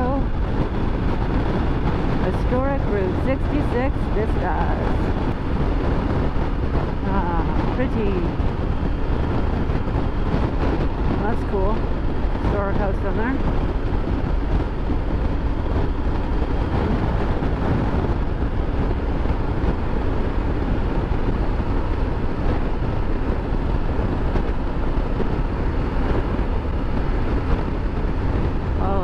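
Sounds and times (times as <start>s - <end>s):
road noise: 0.0s - 29.0s
wind rush on microphone: 0.0s - 29.0s.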